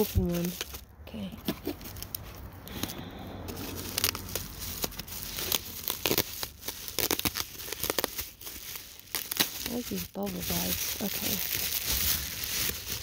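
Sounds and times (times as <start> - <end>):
bubble wrap crinkling and tearing: 0.0 - 0.9, 1.6 - 13.0.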